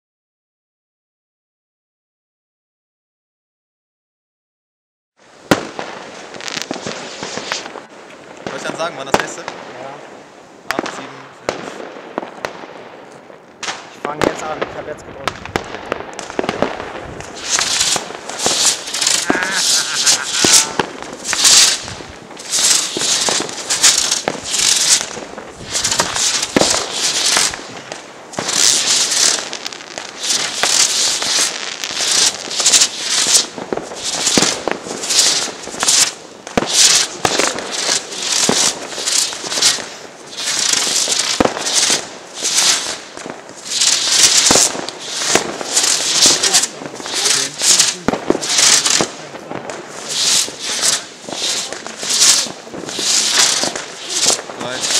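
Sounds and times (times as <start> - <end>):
fireworks crackling hiss: 5.2 - 54.9
fireworks bangs: 5.3 - 54.9.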